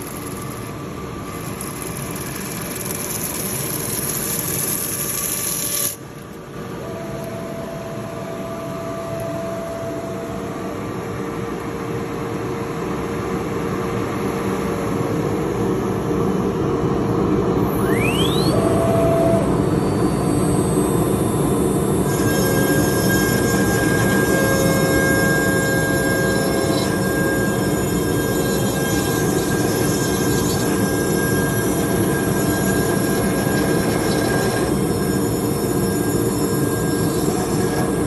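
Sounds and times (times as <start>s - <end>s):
rising machine whine: 0.0s - 38.0s
woodworking machine running: 0.0s - 38.0s.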